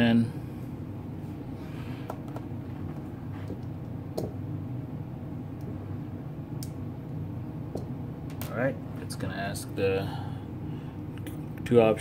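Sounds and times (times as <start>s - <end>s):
low room tone hum: 0.0s - 12.0s.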